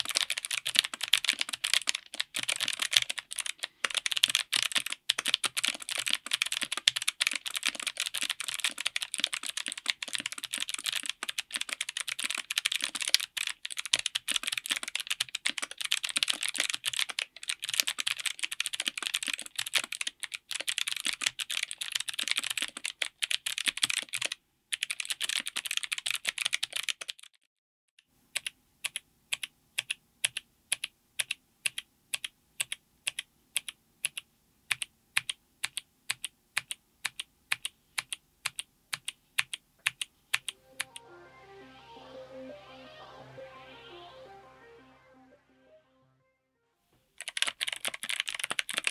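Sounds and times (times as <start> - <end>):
fast typing on clicky keyboard: 0.0 - 27.5, 28.3 - 40.5, 47.2 - 48.9.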